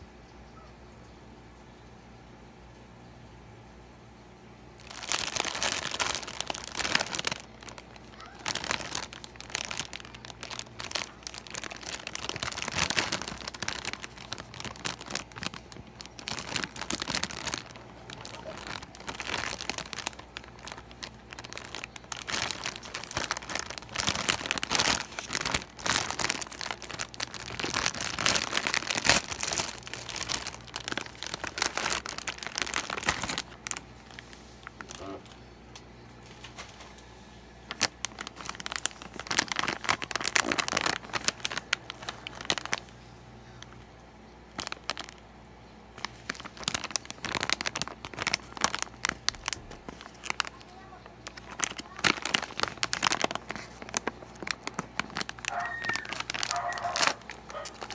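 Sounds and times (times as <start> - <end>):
plastic snack bag crackling: 4.8 - 35.4, 36.2 - 57.9.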